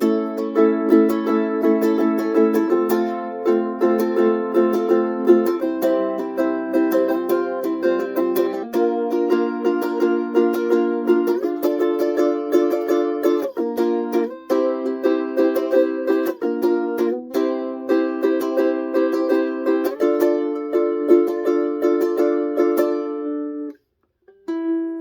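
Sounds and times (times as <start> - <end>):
ukulele strummed: 0.0 - 25.0.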